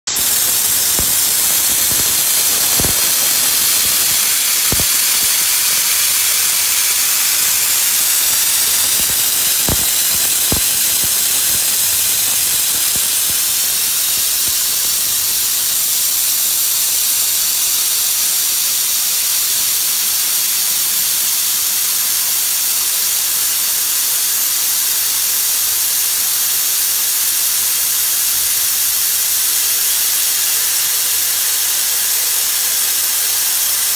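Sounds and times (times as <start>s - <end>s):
compressed air hissing: 0.1s - 33.9s.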